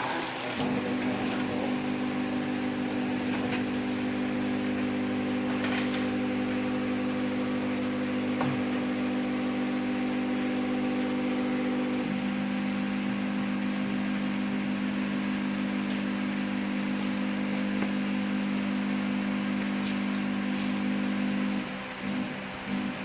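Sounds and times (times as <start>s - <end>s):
machine low electric hum: 0.0s - 23.0s.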